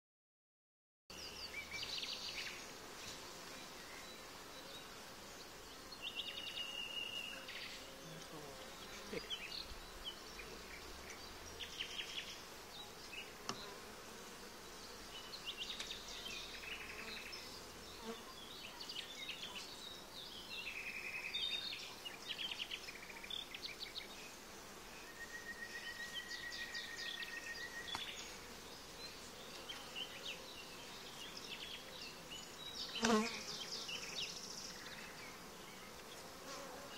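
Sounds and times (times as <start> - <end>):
honey bees buzzing: 1.2 - 36.9.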